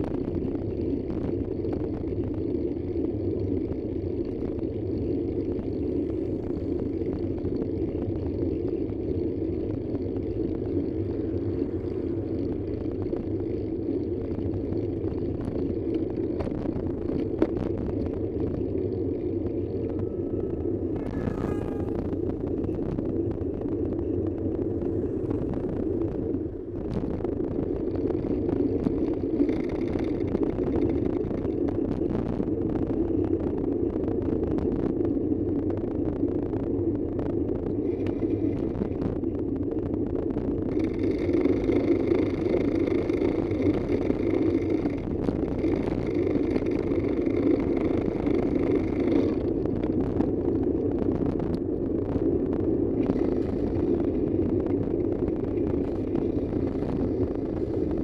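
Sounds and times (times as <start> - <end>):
high whine: 0.0 - 58.0
vehicle driving rumble: 0.0 - 58.0.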